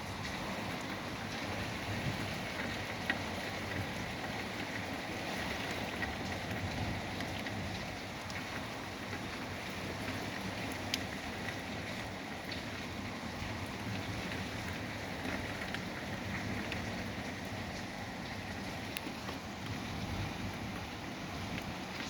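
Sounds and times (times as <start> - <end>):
rain: 0.0 - 22.0
wind: 0.0 - 22.0.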